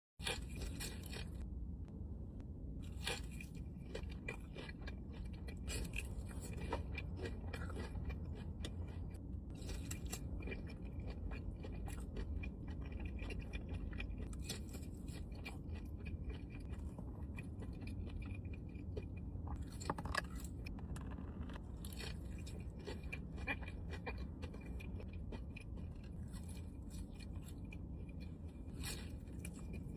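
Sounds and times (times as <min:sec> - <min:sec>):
crunchy food being chewed: 0:00.2 - 0:01.5, 0:02.8 - 0:29.9
steady low hum: 0:00.2 - 0:29.9.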